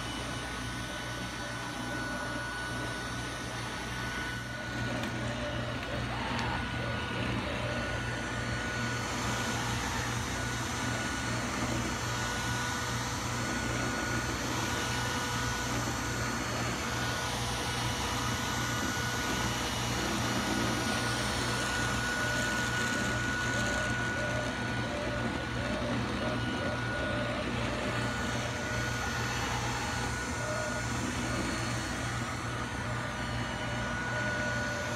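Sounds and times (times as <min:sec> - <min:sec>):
robot vacuum motor hum: 0:00.0 - 0:34.9
thin high whine: 0:00.0 - 0:34.9.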